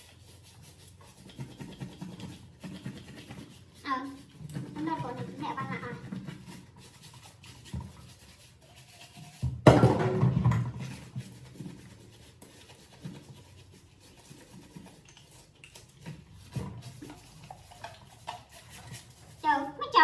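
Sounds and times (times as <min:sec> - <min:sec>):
brush scrubbing plastic bottle: 0:00.0 - 0:20.0.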